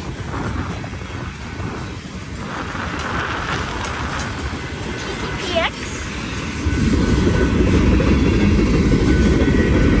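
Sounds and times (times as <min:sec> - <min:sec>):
freight train cars rolling: 0:00.0 - 0:10.0.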